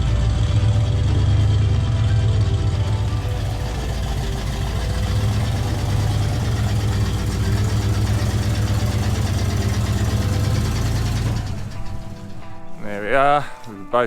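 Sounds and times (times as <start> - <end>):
vehicle engine droning: 0.0 - 13.2.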